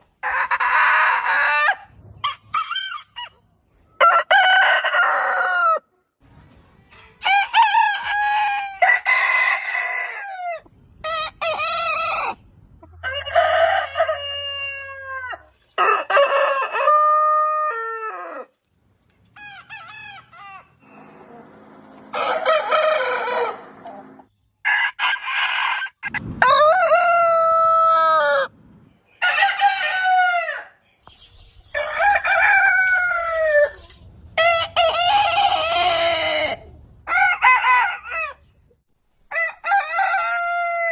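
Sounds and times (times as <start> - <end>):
roosters crowing: 0.2 - 3.4, 4.0 - 5.8, 7.2 - 18.6, 19.3 - 28.6, 29.2 - 30.8, 31.7 - 38.6, 39.3 - 40.9.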